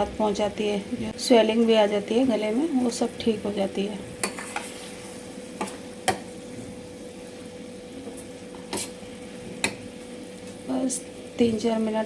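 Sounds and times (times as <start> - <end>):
syrup simmering with soft sizzle: 0.0 - 12.0.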